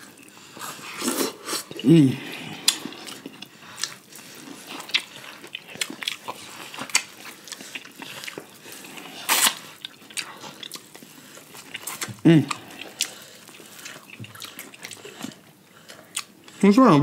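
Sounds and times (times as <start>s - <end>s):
chewing: 0.0s - 16.7s.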